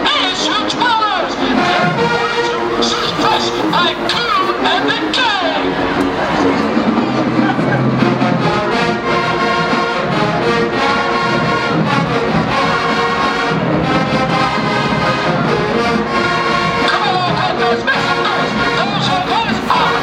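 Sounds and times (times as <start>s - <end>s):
brass section sustained chords: 0.0s - 20.0s.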